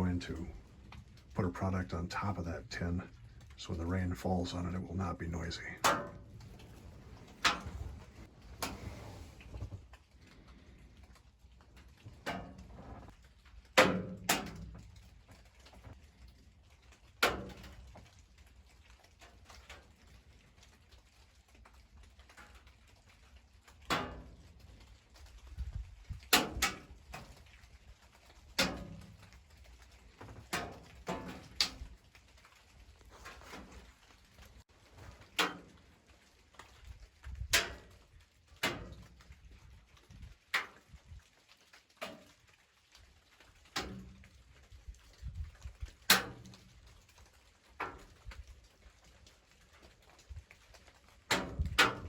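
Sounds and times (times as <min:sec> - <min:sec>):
water dripping on tin roof: 0:00.0 - 0:52.0.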